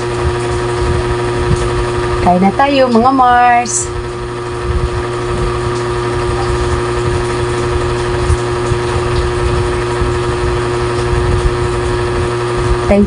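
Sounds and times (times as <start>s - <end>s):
steady motor hum: 0.0s - 13.0s.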